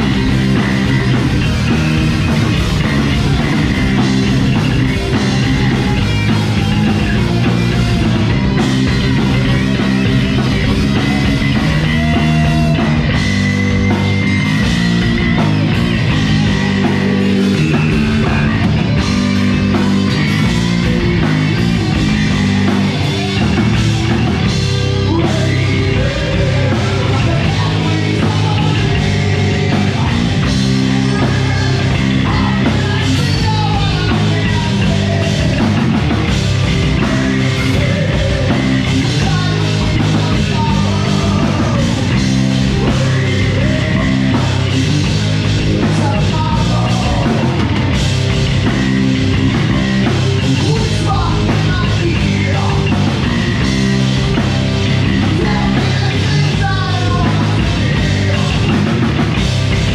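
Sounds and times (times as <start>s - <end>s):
bass guitar: 0.0s - 59.9s
distorted electric guitars: 0.0s - 59.9s
drums: 0.0s - 59.9s
singer's vocals: 0.0s - 59.9s.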